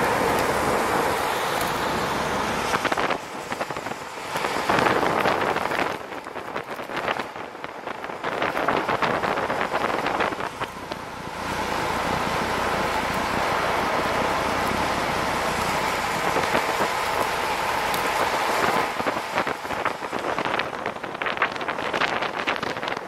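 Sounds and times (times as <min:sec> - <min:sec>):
skateboard wheels rolling on asphalt: 0:00.0 - 0:23.0
wind rushing over microphone: 0:00.0 - 0:23.0.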